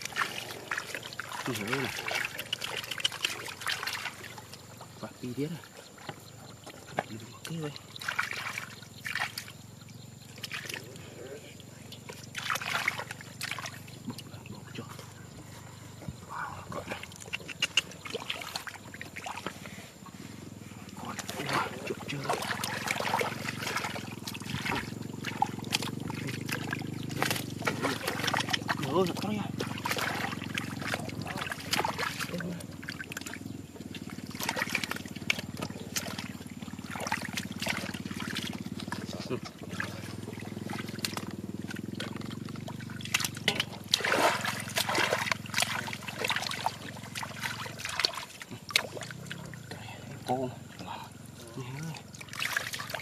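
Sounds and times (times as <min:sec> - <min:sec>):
steady low hum: 0:00.0 - 0:53.0
water trickling and splashing: 0:00.0 - 0:53.0.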